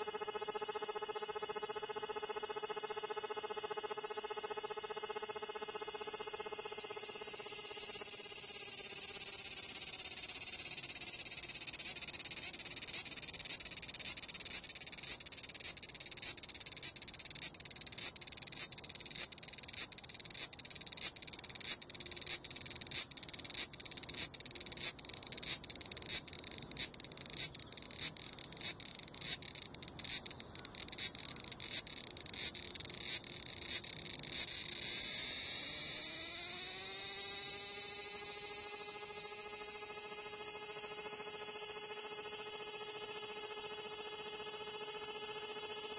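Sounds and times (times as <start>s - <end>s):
cicada singing: 0.0s - 45.9s.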